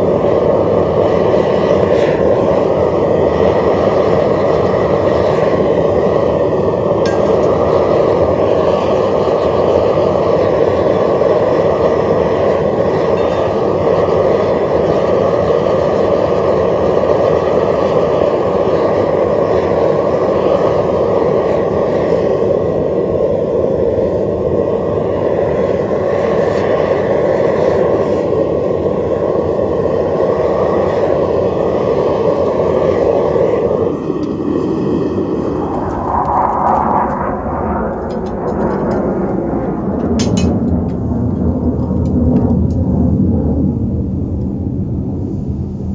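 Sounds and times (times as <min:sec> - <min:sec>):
burner flame roaring: 0:00.0 - 0:45.9.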